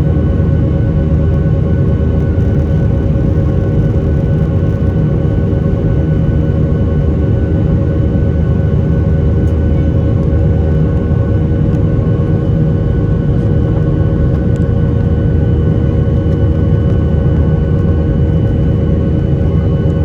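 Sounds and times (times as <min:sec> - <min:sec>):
jet engine cabin rumble: 0:00.0 - 0:20.0
jet engine whining tones: 0:00.0 - 0:20.0.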